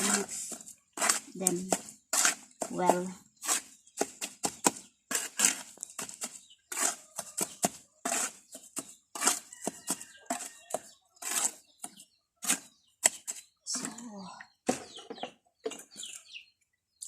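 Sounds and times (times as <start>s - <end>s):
cement mix scraped by hand: 0.0s - 14.0s.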